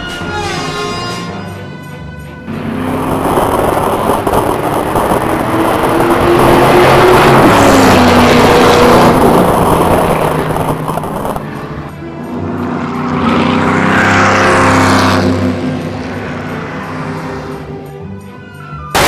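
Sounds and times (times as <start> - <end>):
race car engine: 2.5 - 18.1.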